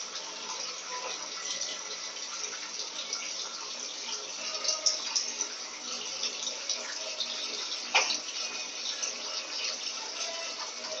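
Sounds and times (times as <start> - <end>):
washing machine spinning: 0.0 - 11.0
water rushing and draining: 0.0 - 11.0.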